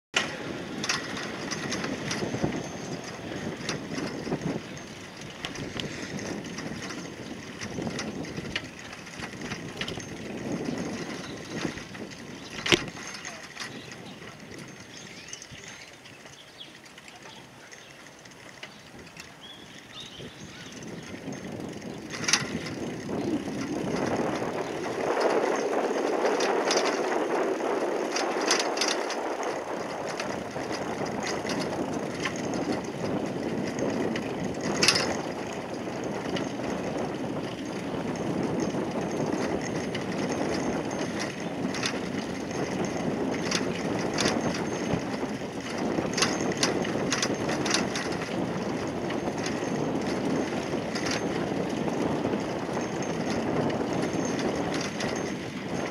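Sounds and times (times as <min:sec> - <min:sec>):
bicycle clicks and rattles: 0:00.2 - 0:55.9
bicycle tyres rolling on stone: 0:00.2 - 0:55.9.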